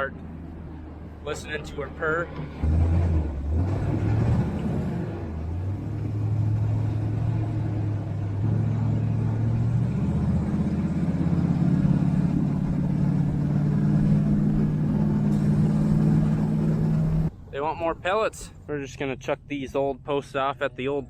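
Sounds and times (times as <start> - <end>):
diesel engine running: 0.0 - 19.4.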